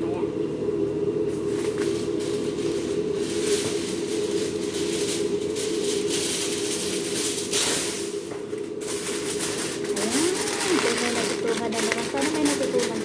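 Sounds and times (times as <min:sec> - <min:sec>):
steady low hum: 0:00.0 - 0:13.0
plastic bag crinkling: 0:01.4 - 0:13.0.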